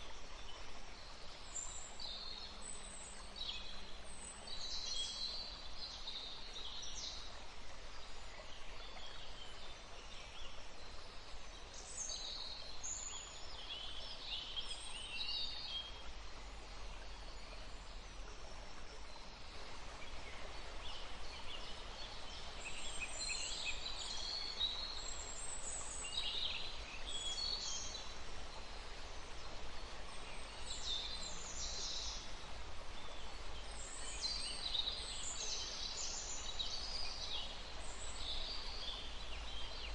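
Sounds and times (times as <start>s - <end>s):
songbirds chirping: 0.0s - 39.9s
woodland stream flowing: 0.0s - 39.9s.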